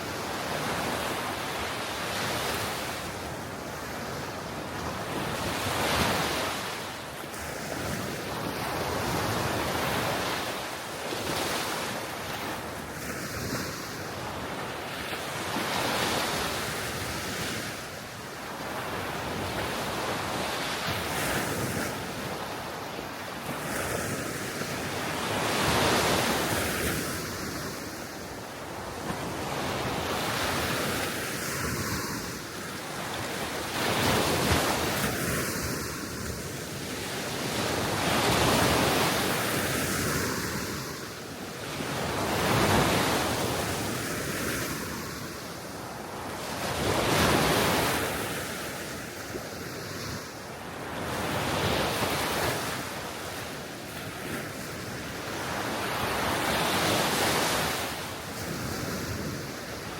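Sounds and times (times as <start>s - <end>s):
gentle waves breaking on shore: 0.0s - 59.9s.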